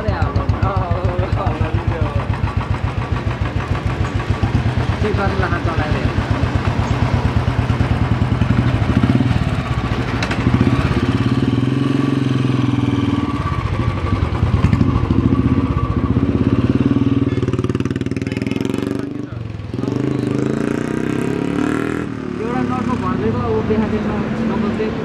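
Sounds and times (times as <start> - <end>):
single-cylinder engine thumping: 0.0 - 23.4.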